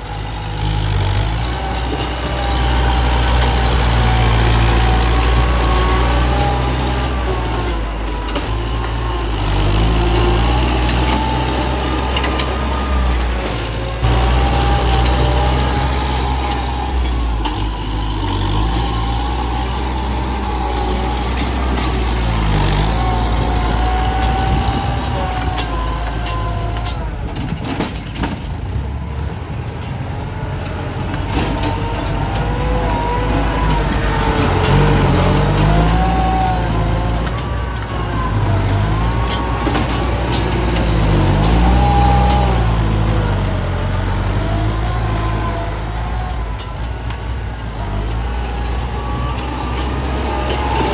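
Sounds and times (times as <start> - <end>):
heavy truck engine under load: 0.0 - 50.9.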